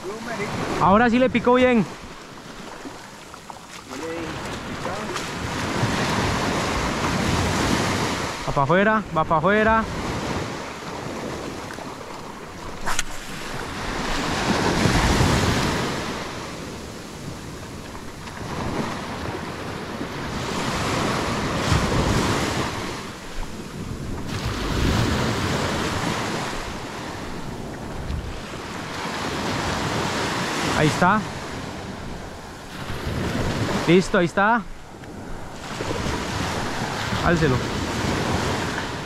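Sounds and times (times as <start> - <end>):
waves breaking on beach: 0.0 - 39.0
wind buffeting microphone: 0.0 - 39.0.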